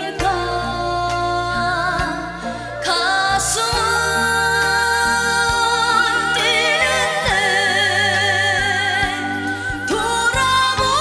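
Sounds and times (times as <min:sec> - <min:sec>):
instrumental backing with beat: 0:00.0 - 0:11.0
woman singing with vibrato: 0:00.0 - 0:11.0.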